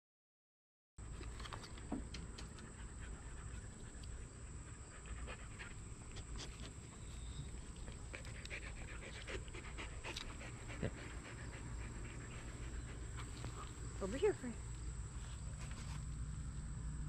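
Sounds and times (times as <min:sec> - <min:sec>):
dog panting: 0:01.7 - 0:16.1.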